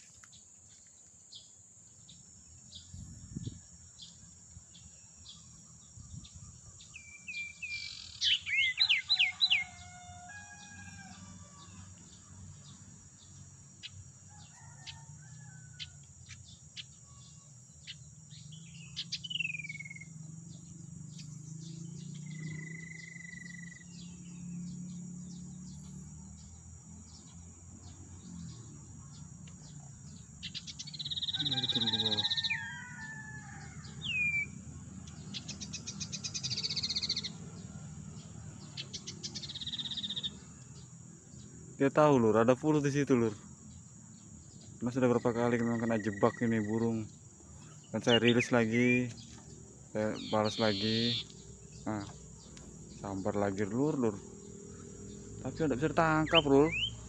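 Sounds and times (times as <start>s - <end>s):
songbirds chattering and whistling: 0.0s - 57.0s.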